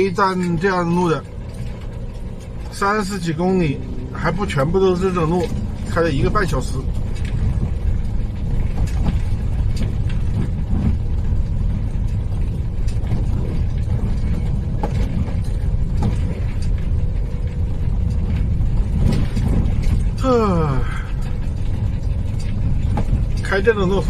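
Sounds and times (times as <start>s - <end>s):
knocks and rattles: 0.0s - 24.0s
road rumble: 0.0s - 24.0s.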